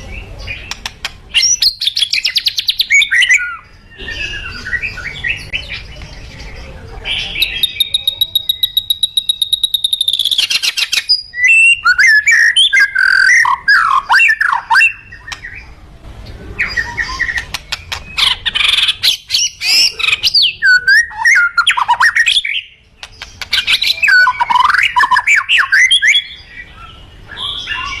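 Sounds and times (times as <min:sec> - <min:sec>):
bird singing: 0:00.0 - 0:28.0.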